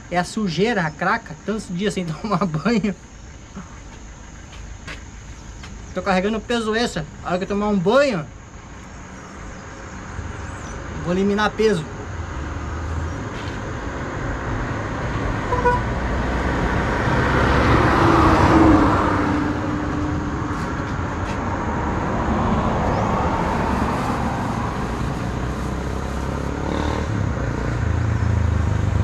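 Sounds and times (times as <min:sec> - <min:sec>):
vehicles passing: 0:00.0 - 0:29.0.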